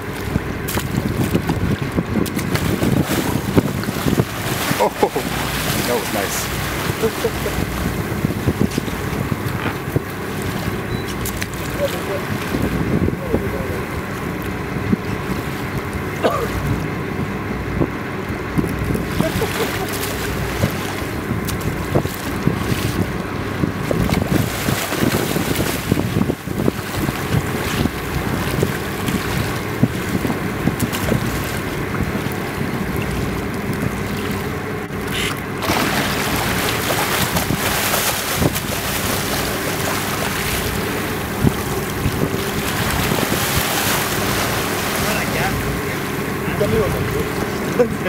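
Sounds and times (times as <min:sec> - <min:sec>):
boat engine running: 0:00.0 - 0:48.0
water splashing against hull: 0:00.0 - 0:48.0
wind buffeting microphone: 0:00.0 - 0:48.0.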